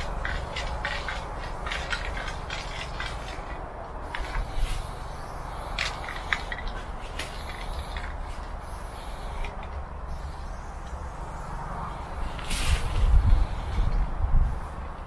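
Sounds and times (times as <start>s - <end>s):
spray paint can hissing: 0.0s - 15.0s.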